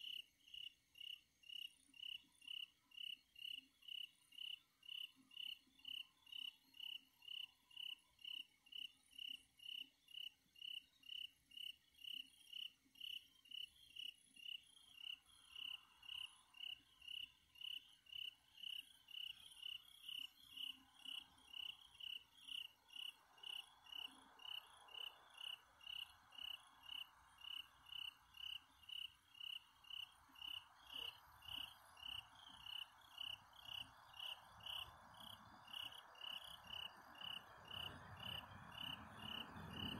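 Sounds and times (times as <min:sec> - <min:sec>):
faint insect chirping: 0:00.0 - 0:39.9
soft steady hiss: 0:00.0 - 0:39.9.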